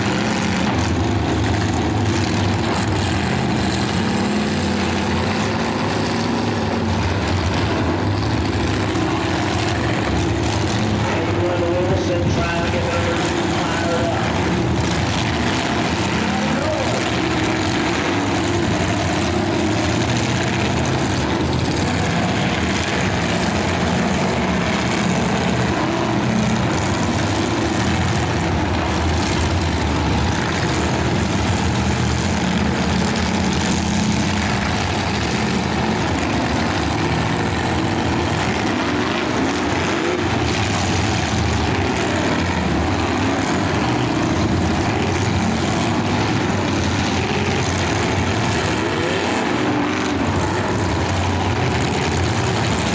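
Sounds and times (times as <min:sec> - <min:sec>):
car engines running: 0:00.0 - 0:52.9.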